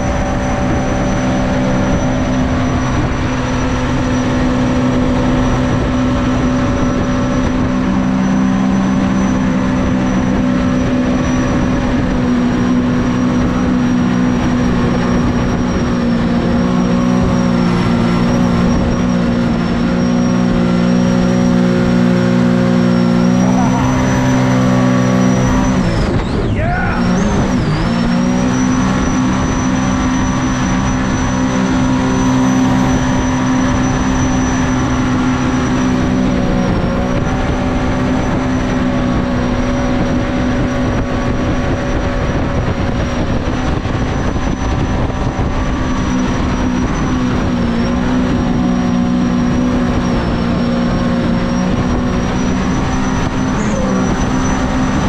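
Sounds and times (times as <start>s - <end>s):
boat engine running hard: 0.0s - 55.0s
high whine: 0.0s - 55.0s.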